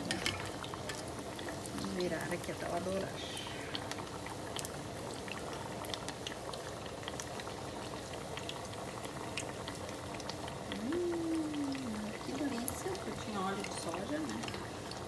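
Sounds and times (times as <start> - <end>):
deep-frying sizzle with pops: 0.0 - 15.0.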